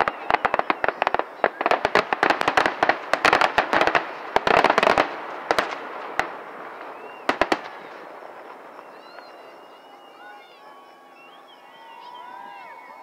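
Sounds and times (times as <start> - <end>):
fireworks bangs and crackling: 0.0 - 10.6.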